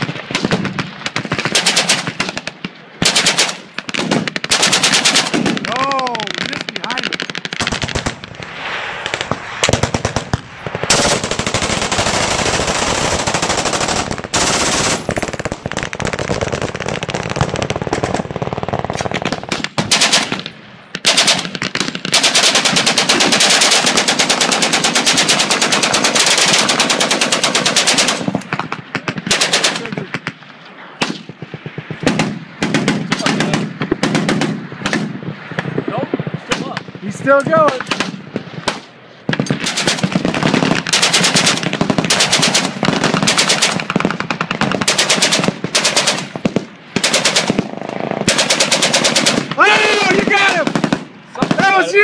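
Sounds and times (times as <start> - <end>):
machine guns firing bursts: 0.0 - 8.2, 9.6 - 30.3, 31.0 - 35.1, 37.6 - 52.0.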